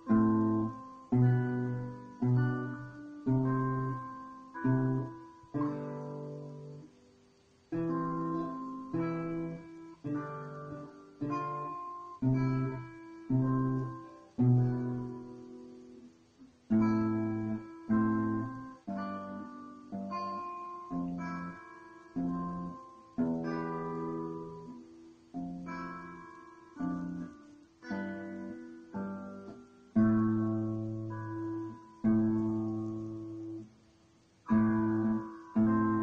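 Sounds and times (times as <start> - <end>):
classical guitar plucked: 0.0 - 36.0.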